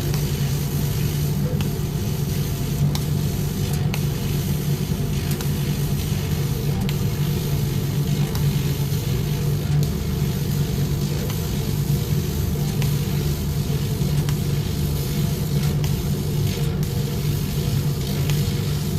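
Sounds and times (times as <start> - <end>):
laser cutter humming and hissing: 0.0 - 18.9.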